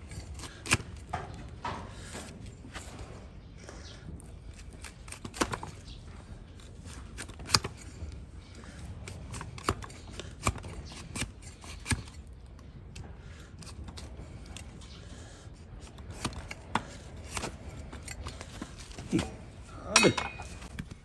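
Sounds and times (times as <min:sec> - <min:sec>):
blade cutting and scraping hoof: 0:00.0 - 0:21.0.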